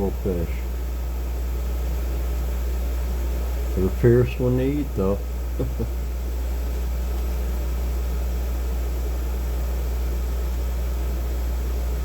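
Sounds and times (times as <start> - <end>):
aquarium filter hum and hiss: 0.0 - 12.0.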